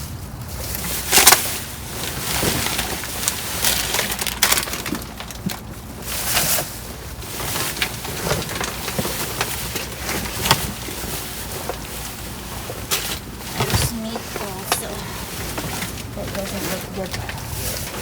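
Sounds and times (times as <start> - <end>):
plastic packaging crinkling: 1.0 - 18.0.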